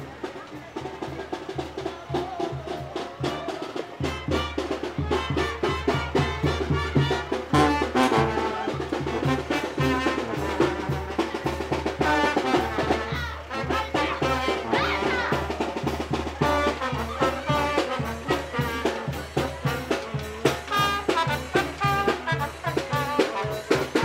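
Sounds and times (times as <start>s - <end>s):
bass drum and percussion: 0.0s - 24.0s
brass band playing: 0.0s - 24.0s
trumpets: 0.8s - 24.0s.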